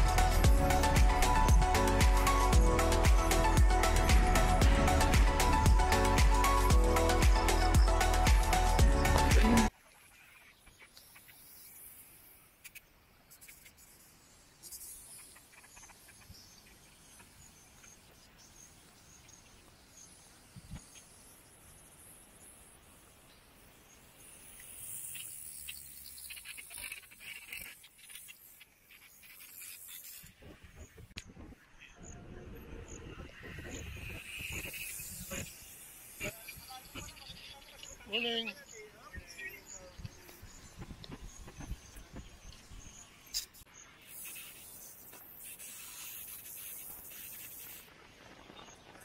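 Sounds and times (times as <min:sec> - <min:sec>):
insect buzz: 0:00.0 - 0:31.0, 0:33.2 - 0:49.0.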